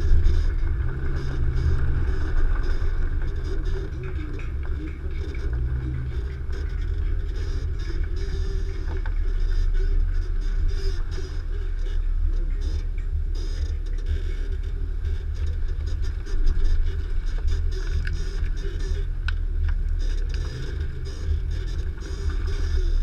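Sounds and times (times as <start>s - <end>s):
engine low rumble: 0.0s - 23.0s.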